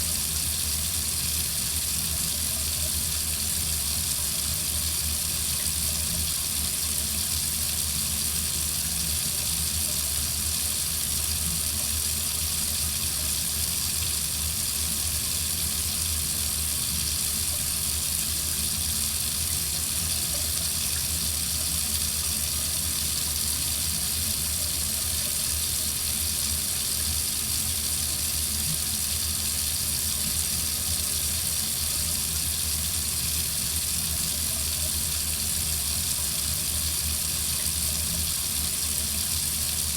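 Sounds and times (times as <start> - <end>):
faucet running into sink: 0.0 - 39.9.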